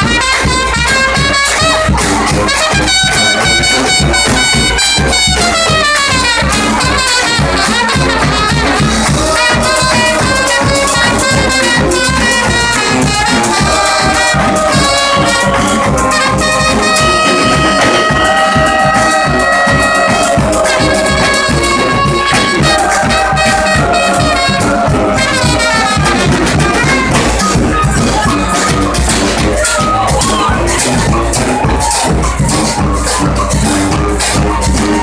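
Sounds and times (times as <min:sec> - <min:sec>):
brass band playing: 0:00.0 - 0:35.0
steady drumbeat: 0:00.0 - 0:35.0.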